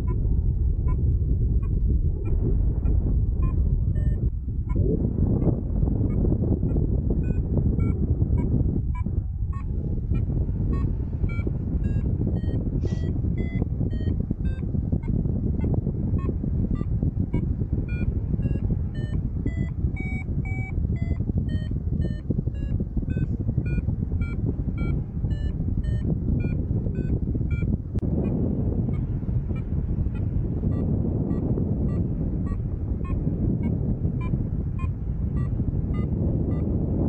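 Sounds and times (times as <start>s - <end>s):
variometer beeping: 0.0s - 1.0s, 1.6s - 37.0s
airflow rushing on microphone: 0.0s - 37.0s.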